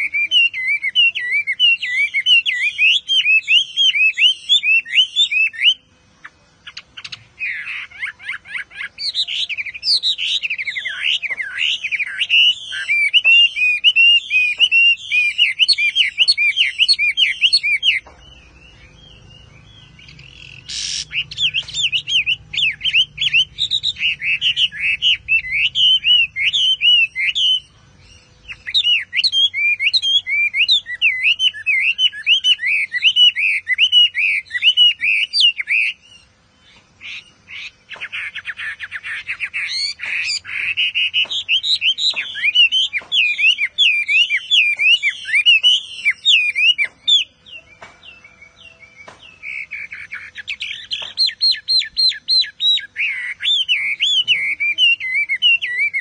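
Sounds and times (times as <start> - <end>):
bird singing whistled notes: 0.0 - 56.0.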